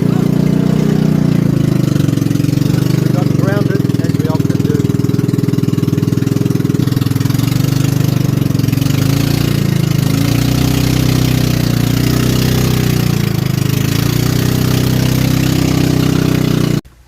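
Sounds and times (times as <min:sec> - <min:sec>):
canoe motor running: 0:00.0 - 0:17.0.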